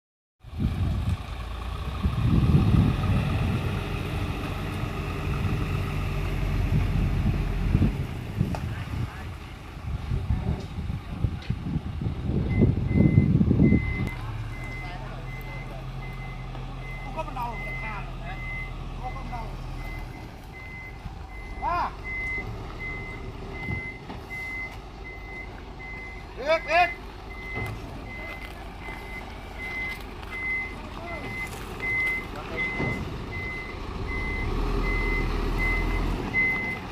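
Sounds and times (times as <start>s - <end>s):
fire truck engine running: 0.4s - 36.9s.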